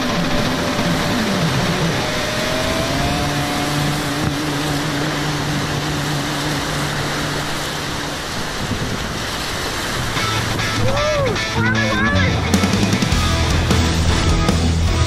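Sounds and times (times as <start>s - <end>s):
whitewater rushing and churning: 0.0s - 15.0s.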